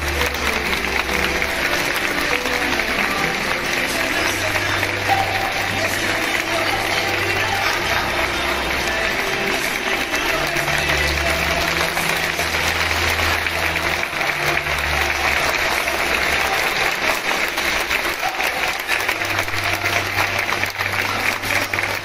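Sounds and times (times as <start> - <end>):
stadium crowd applauding: 0.0 - 22.0.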